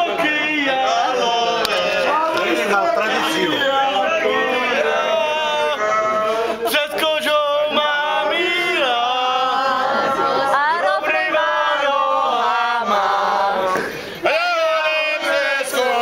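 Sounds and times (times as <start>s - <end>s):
group of men singing: 0.0s - 16.0s.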